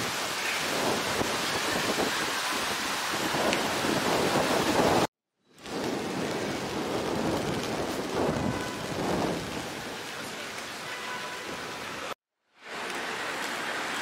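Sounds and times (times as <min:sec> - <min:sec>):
rain on an umbrella: 0:00.0 - 0:14.0.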